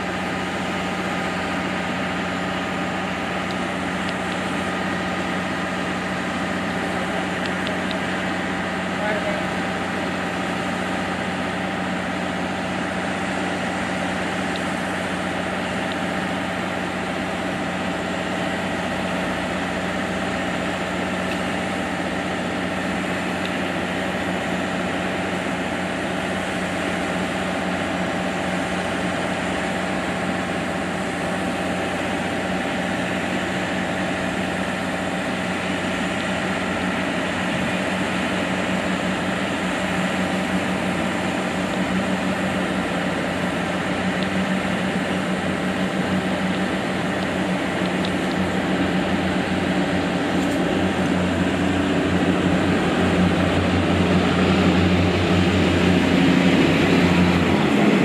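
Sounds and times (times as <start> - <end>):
train engine idling hum: 0.0 - 58.0.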